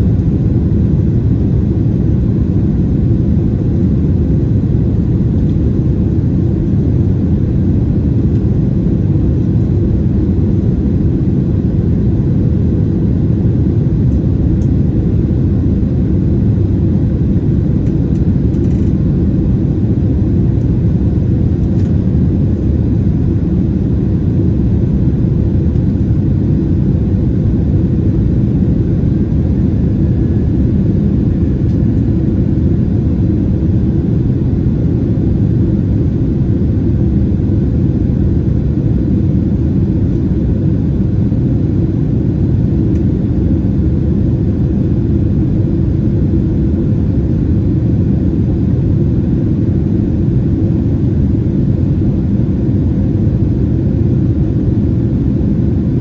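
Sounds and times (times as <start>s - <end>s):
airflow over airframe: 0.0s - 56.0s
jet engine rumble: 0.0s - 56.0s.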